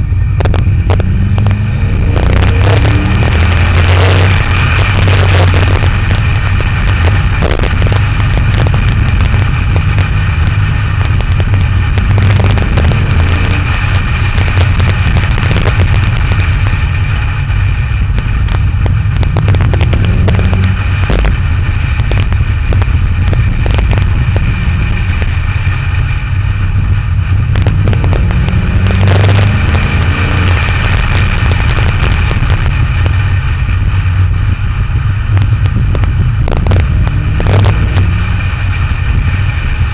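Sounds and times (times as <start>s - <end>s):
sports car engine revving: 0.0s - 39.9s
wind and road noise: 0.0s - 39.9s.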